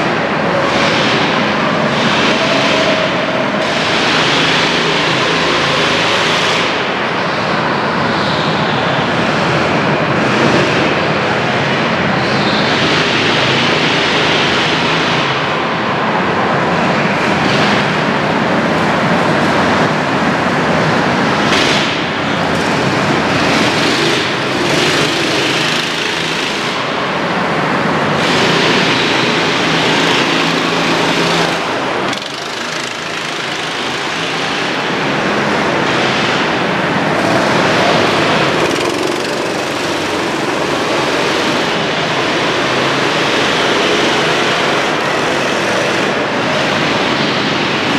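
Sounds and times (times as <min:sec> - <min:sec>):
go-kart engines passing: 0:00.0 - 0:47.9.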